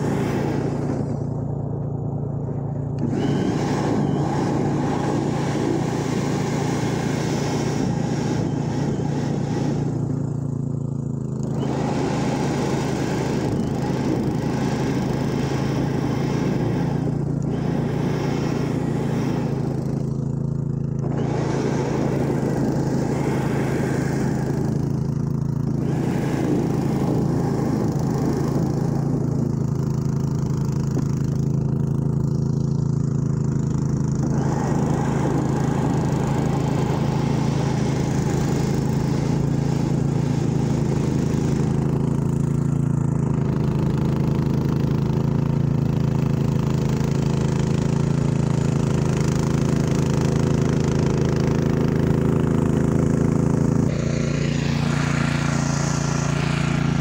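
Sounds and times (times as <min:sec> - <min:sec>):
electric snow thrower motor: 0:00.0 - 0:57.0
snow blower engine: 0:00.0 - 0:57.0.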